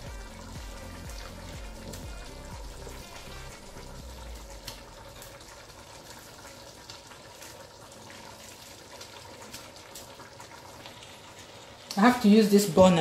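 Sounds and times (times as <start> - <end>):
soup simmering: 0.0 - 12.1.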